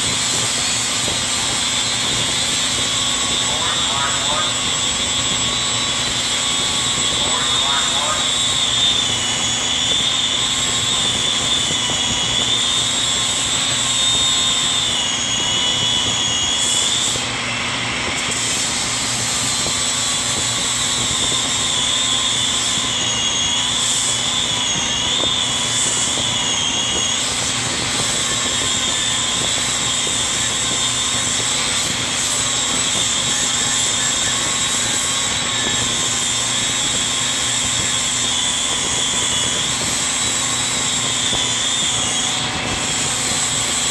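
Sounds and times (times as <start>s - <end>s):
angle grinder on metal: 0.0s - 43.9s.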